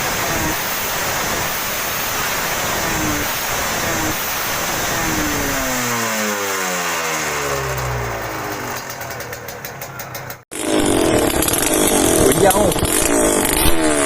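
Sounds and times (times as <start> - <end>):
two-stroke engine revs falling: 0.0 - 14.0.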